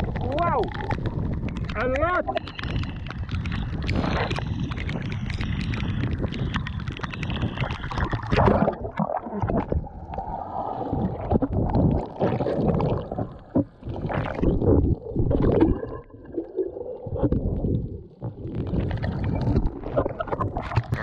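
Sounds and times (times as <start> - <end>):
underwater gurgling and bubbling: 0.0 - 21.0.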